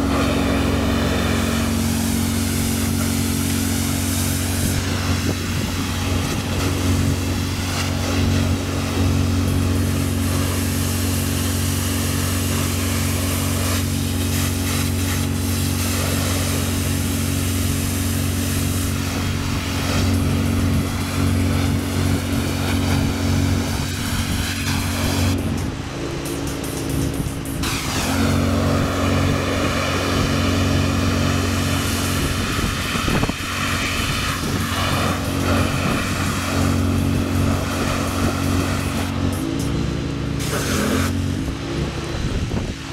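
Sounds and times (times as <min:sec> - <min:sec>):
water spraying hiss: 0:00.0 - 0:41.6
pressure washer engine running: 0:00.0 - 0:42.9.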